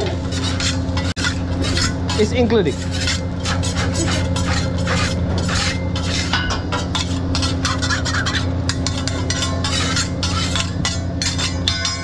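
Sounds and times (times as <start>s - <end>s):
metal spatula scraping griddle: 0.0s - 12.0s
steady low hum: 0.0s - 12.0s.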